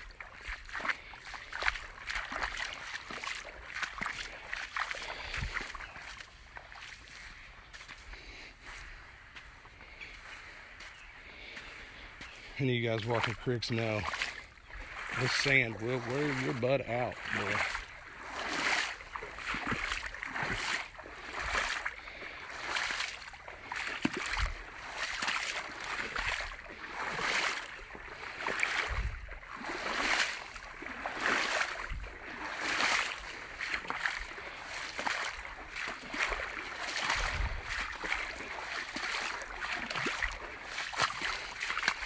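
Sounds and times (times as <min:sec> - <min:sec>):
footsteps wading through water: 0:00.0 - 0:42.0.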